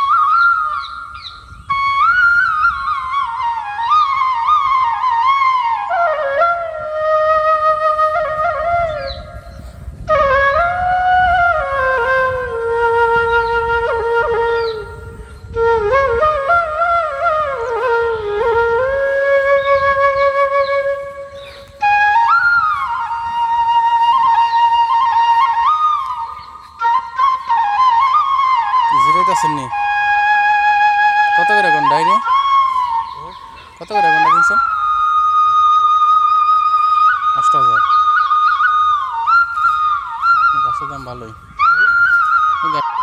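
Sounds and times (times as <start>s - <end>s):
solo flute melody: 0.0s - 43.0s.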